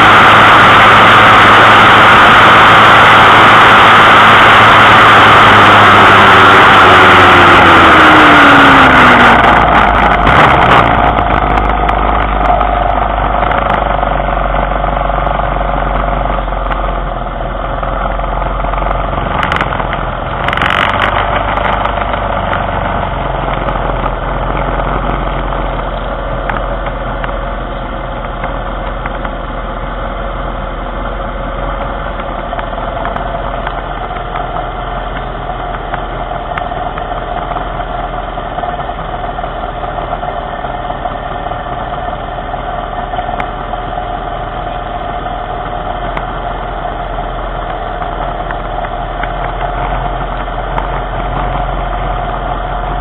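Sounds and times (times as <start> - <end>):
small vehicle engine: 0.0 - 53.0.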